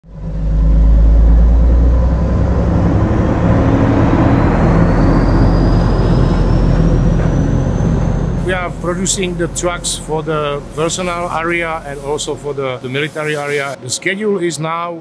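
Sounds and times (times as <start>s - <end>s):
truck diesel engine running: 0.0s - 13.1s
tyre and road noise: 0.0s - 13.8s
thin high whine: 0.1s - 14.4s.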